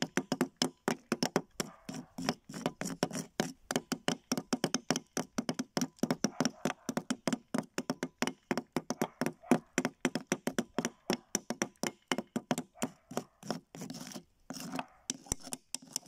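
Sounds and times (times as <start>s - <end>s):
small hammers chipping plaster: 0.0s - 16.0s.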